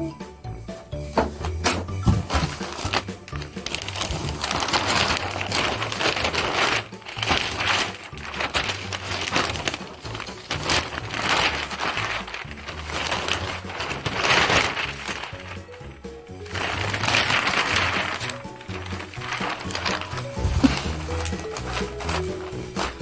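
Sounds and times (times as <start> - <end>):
wrapping paper rustling and crinkling: 0.5 - 23.0.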